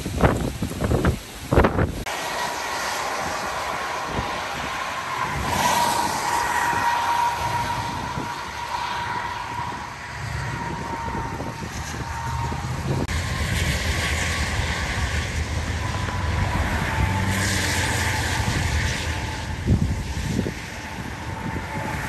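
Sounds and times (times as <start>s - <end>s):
hurricane wind and rain: 0.0s - 22.0s
traffic hissing on wet road: 0.0s - 22.0s
wind buffeting microphone: 0.0s - 22.0s.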